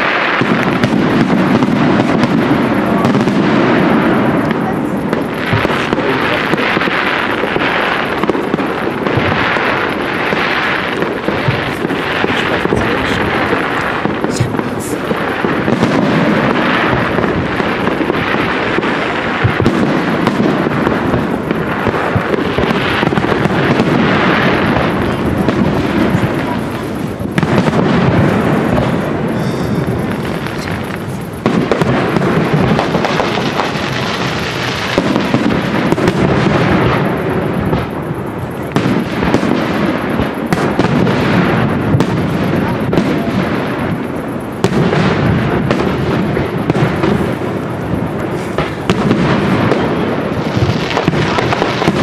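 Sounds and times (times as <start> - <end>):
continuous background din: 0.0 - 52.0
firework shells bursting: 0.0 - 52.0.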